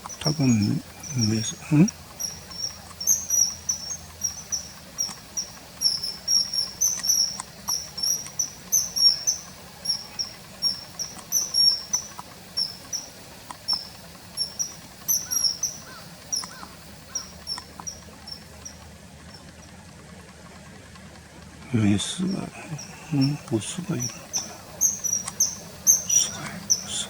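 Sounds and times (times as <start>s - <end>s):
kingfisher calling: 0.0s - 19.7s, 21.6s - 27.0s.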